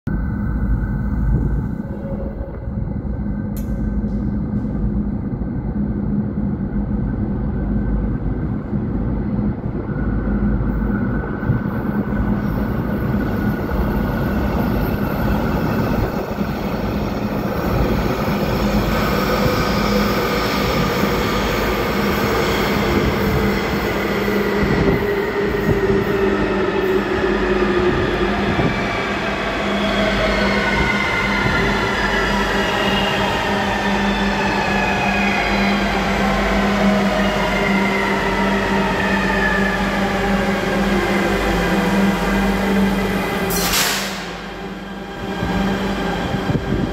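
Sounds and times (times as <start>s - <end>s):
train rumbling in tunnel: 0.0s - 46.9s.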